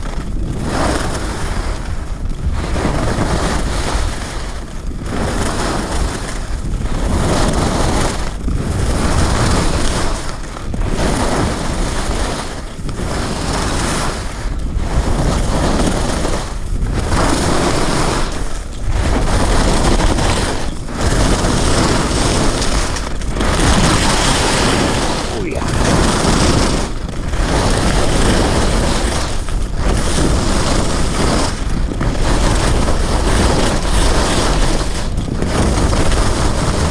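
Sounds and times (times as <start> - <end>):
skis sliding on snow: 0.0 - 36.9
wind rushing over microphone: 0.0 - 36.9.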